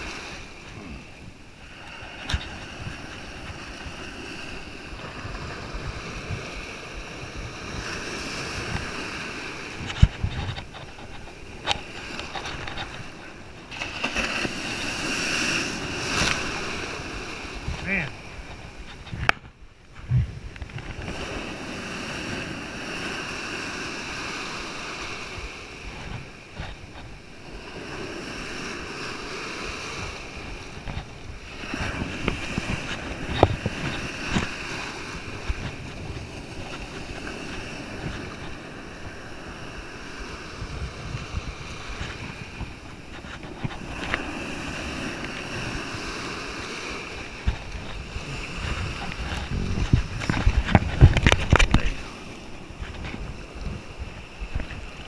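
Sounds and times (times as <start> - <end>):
ocean surf washing in shallows: 0.0 - 55.0
wind on microphone: 0.0 - 55.0.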